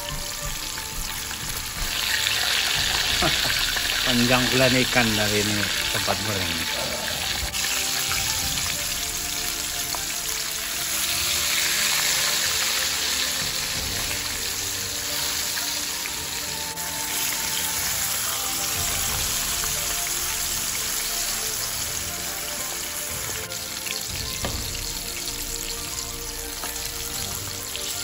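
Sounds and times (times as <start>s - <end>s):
fish frying in oil: 0.0s - 28.0s.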